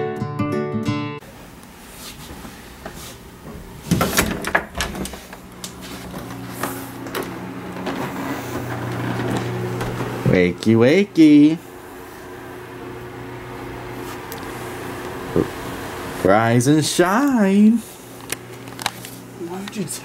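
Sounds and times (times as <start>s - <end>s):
steady low hum: 1.2s - 20.0s.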